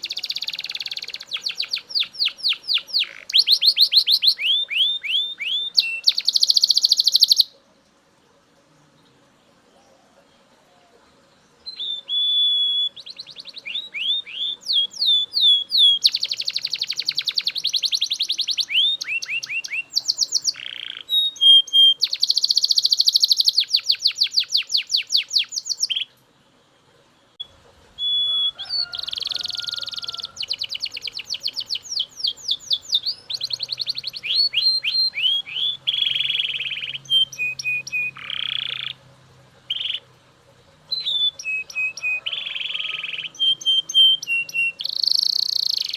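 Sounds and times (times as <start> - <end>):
canary singing trills: 0.0 - 7.7, 9.6 - 26.2, 27.2 - 45.9.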